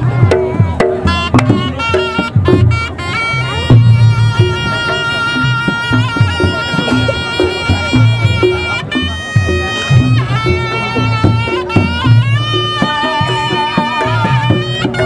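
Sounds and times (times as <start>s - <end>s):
drum strokes: 0.0s - 15.0s
pitched percussion: 0.0s - 15.0s
shawm holding a reedy note: 0.0s - 15.0s.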